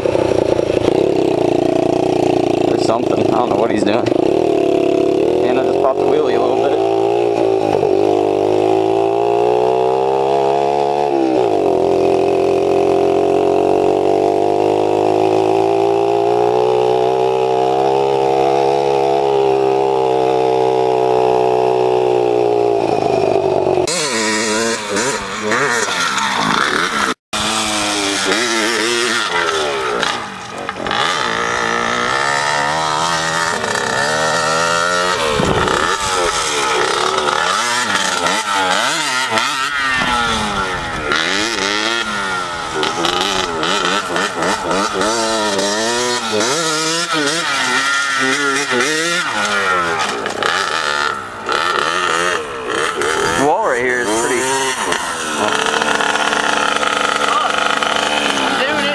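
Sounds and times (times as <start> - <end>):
pit bike engines revving: 0.0 - 58.9.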